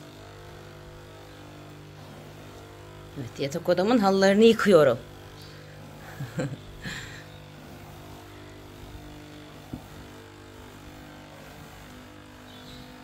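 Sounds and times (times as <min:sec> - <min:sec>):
wet vacuum motor hum: 0:00.0 - 0:13.0.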